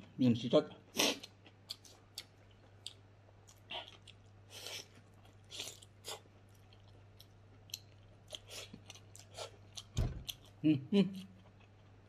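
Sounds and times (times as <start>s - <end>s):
person chewing meat: 1.0s - 12.0s.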